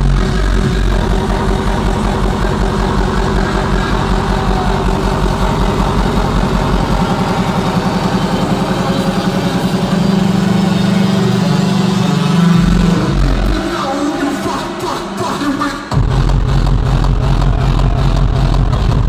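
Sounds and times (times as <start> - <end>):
distorted buzzing bass synth: 0.0 - 19.0
hardstyle music: 0.0 - 19.0.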